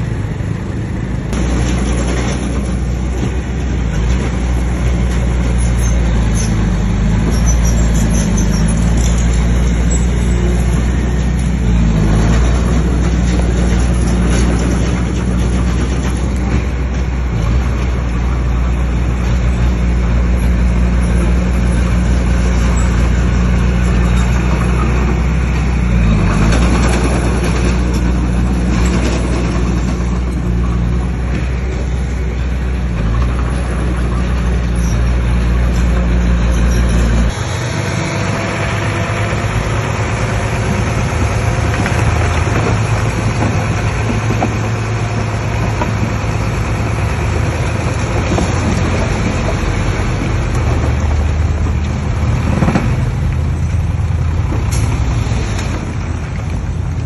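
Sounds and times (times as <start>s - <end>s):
bulldozer diesel engine running: 0.0s - 57.0s
clatter: 1.3s - 37.4s, 38.6s - 57.0s.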